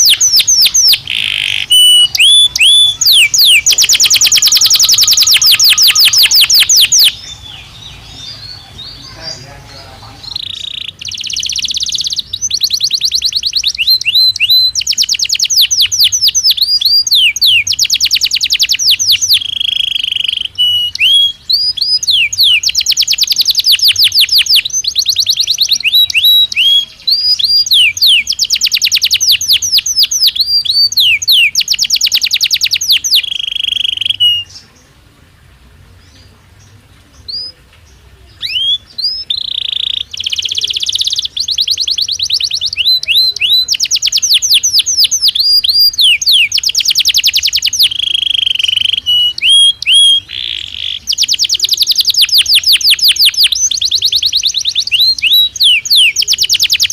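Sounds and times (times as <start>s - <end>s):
canary singing trills: 0.0s - 35.0s, 35.8s - 56.9s.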